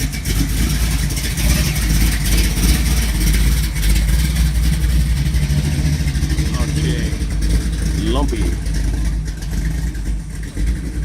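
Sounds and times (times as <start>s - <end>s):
car engine running loud: 0.0s - 11.0s.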